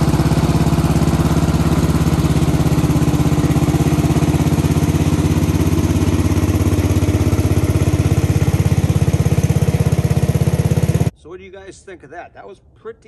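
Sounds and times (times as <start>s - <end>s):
garden tractor engine chugging: 0.0s - 11.1s.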